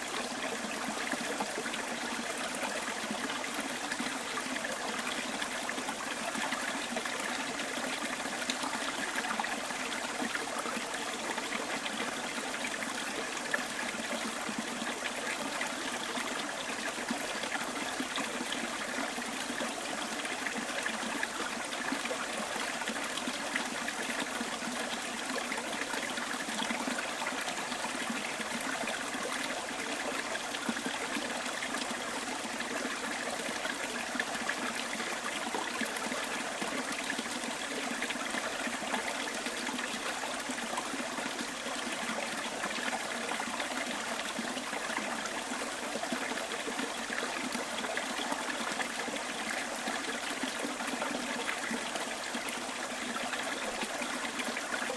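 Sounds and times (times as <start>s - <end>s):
stream babbling over stones: 0.0s - 54.9s.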